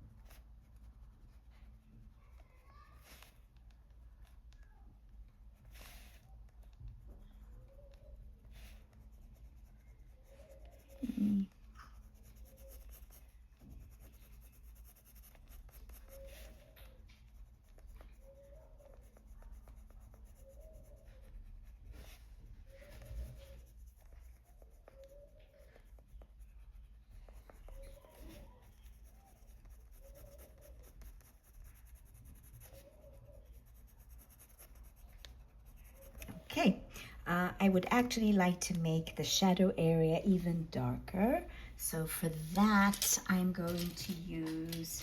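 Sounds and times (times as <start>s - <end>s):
pencil scratching on paper: 0.0s - 45.0s.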